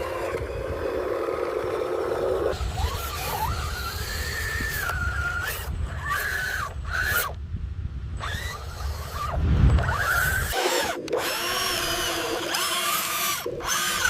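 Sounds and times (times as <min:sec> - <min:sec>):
small electric motor whining: 0:00.0 - 0:07.4, 0:08.1 - 0:14.0.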